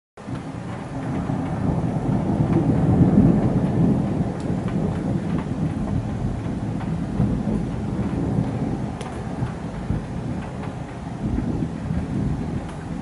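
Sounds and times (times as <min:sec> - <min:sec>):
rain falling: 0:00.2 - 0:13.0
rolling thunder: 0:00.2 - 0:13.0.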